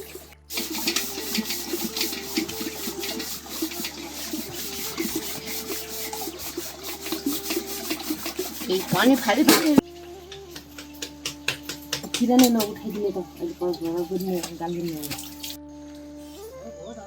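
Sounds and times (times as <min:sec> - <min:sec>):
rapid scraping and rubbing: 0:00.0 - 0:15.6.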